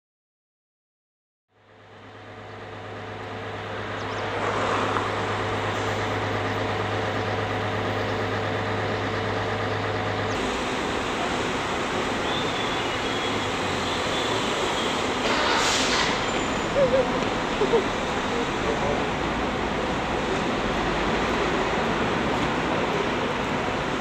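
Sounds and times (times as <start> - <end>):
road traffic and car engines: 1.5 - 24.0
low hum: 1.9 - 21.8.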